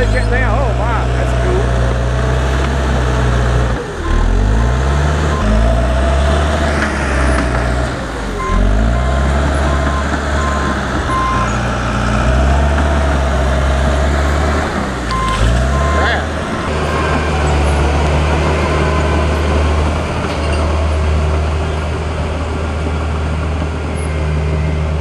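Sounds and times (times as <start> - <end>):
dozer diesel engine working hard: 0.0 - 25.0.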